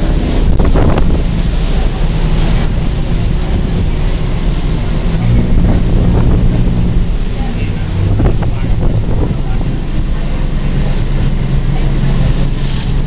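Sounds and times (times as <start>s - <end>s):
boat engine drone: 0.0s - 13.0s
water rushing past hull: 0.0s - 13.0s
wind buffeting microphone: 0.0s - 13.0s.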